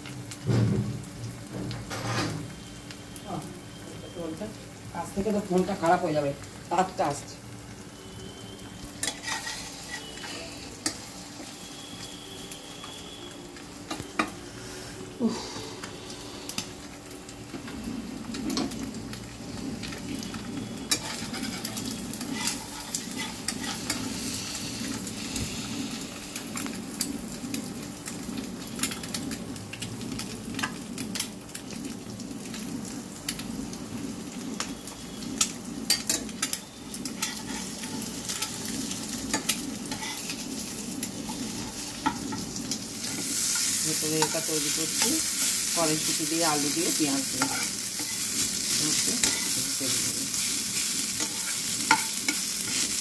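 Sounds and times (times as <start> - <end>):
eggs and onion frying in oil: 0.0 - 53.0
sharp crackles of frying: 0.0 - 53.0.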